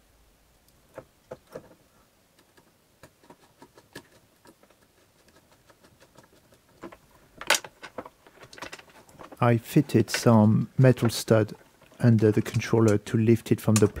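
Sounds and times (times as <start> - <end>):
clicks and taps handling wires: 2.4 - 14.0.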